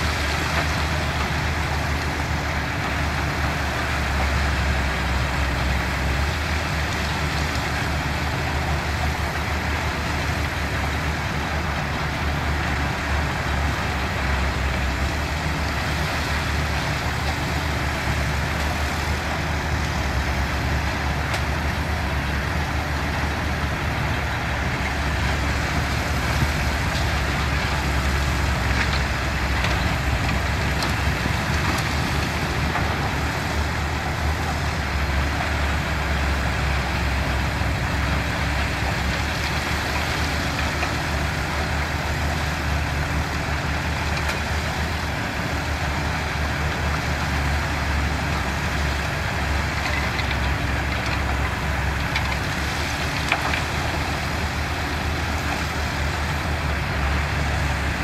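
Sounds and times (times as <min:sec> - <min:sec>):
heavy machinery engine drone: 0:00.0 - 0:58.0.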